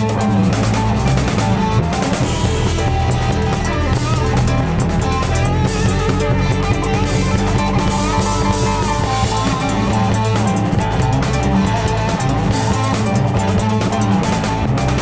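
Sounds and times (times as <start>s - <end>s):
electric guitar bent notes: 0.0s - 15.0s
rock band playing: 0.0s - 15.0s.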